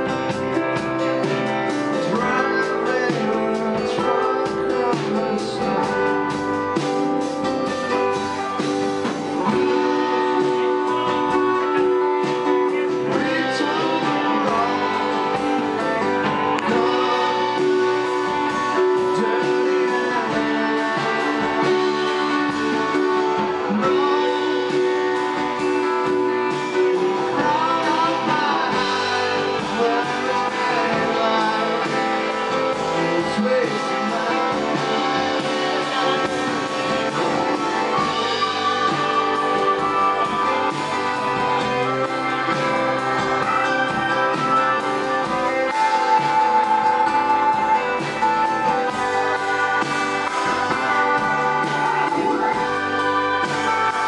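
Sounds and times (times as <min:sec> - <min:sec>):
drums: 0:00.0 - 0:54.0
electric guitar: 0:00.0 - 0:54.0
second guitar: 0:00.0 - 0:54.0.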